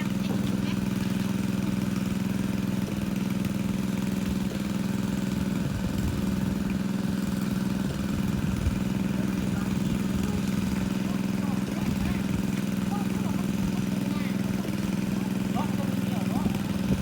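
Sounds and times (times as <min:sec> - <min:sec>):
water pump engine running: 0:00.0 - 0:17.0.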